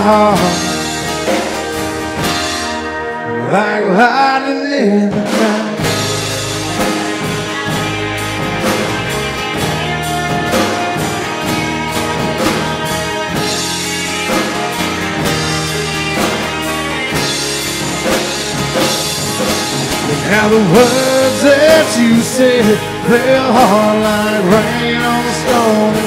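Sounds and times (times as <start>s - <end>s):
drum kit beat: 0.0s - 3.3s, 5.1s - 26.0s
country-rock band playing: 0.0s - 26.0s.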